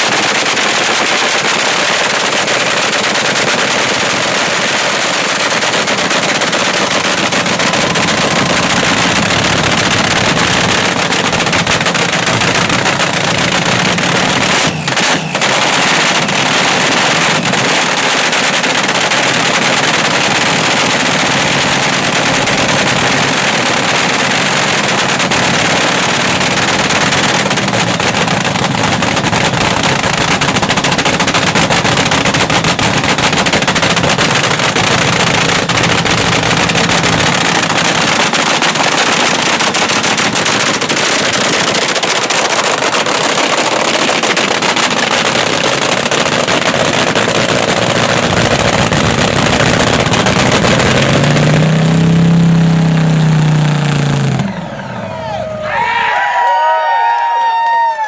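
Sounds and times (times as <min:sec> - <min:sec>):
dragster engine crackling: 0:00.0 - 0:55.7.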